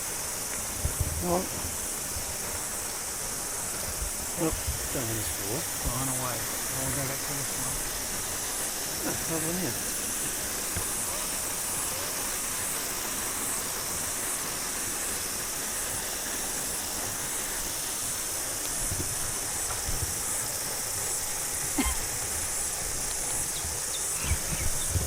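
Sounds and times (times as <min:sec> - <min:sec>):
cicadas singing in chorus: 0:00.0 - 0:25.0.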